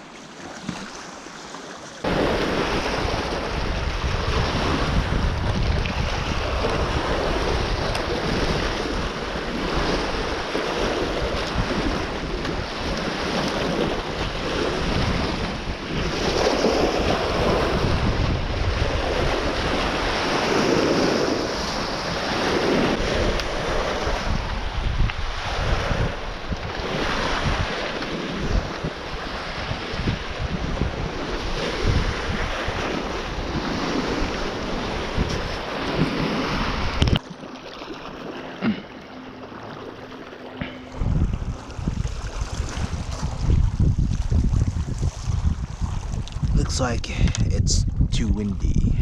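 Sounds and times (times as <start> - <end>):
waves slapping a boat: 0.0 - 49.0
wind buffeting microphone: 2.0 - 37.2, 39.8 - 49.0.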